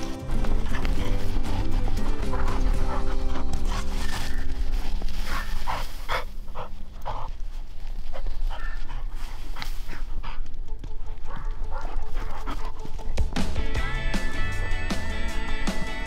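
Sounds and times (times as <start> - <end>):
dog panting: 0.3 - 14.0.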